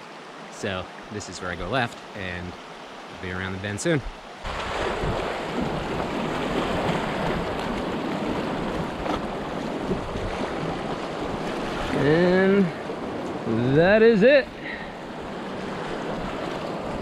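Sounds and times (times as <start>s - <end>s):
creek water rushing and splashing: 0.0s - 17.0s.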